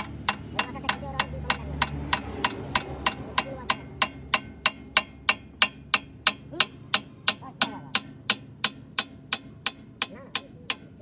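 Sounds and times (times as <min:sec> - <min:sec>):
hammer on steel: 0:00.0 - 0:11.0.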